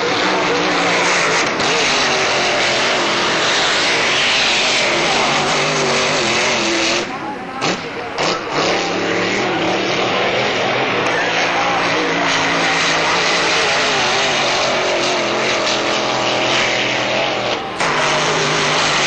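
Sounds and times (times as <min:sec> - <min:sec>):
powerboat engines droning: 0:00.0 - 0:19.0.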